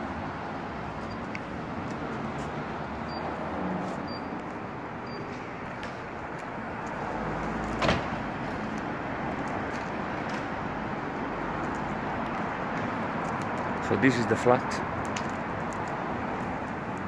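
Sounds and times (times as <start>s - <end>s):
distant traffic: 0.0s - 17.0s.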